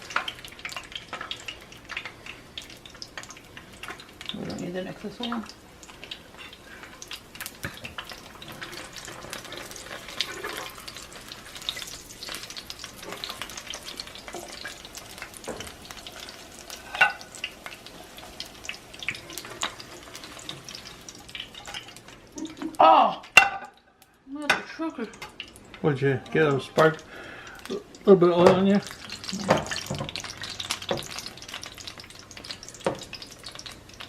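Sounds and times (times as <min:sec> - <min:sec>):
tortillas sizzling in hot oil: 0:00.0 - 0:34.0.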